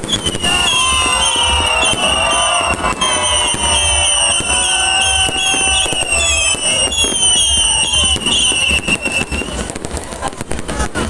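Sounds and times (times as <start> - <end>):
fireworks crackling pops: 0.0 - 11.0
fireworks whistling: 0.0 - 11.0.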